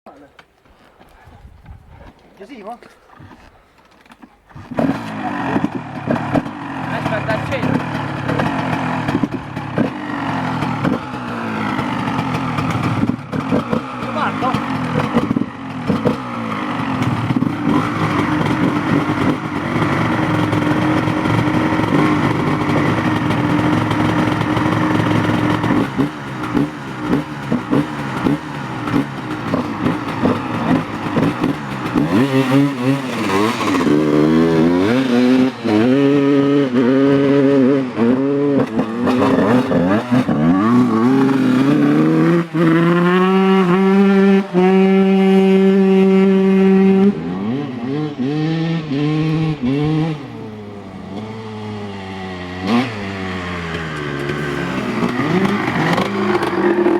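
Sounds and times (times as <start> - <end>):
motocross engine revving: 4.5 - 56.9.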